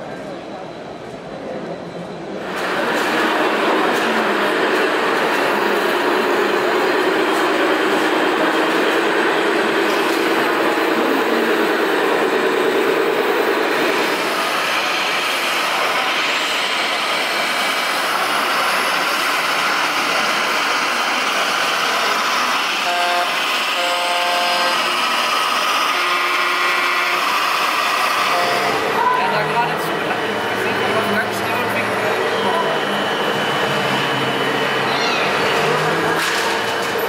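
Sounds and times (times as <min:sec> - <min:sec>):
hall noise: 0:02.3 - 0:37.0.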